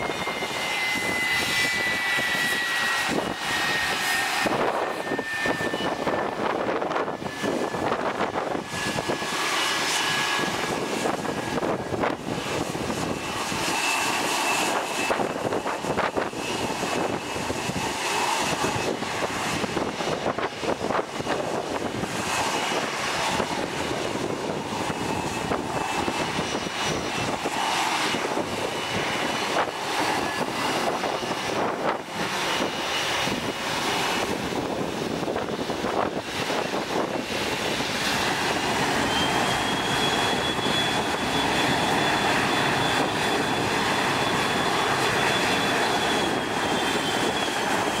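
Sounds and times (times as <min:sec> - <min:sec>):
faint high engine whine: 0:00.0 - 0:48.0
jet airliner taxiing: 0:00.0 - 0:48.0.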